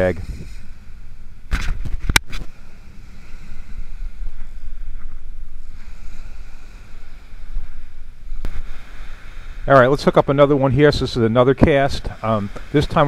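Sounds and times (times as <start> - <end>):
surf: 0.0 - 13.0
wind on microphone: 0.0 - 13.0.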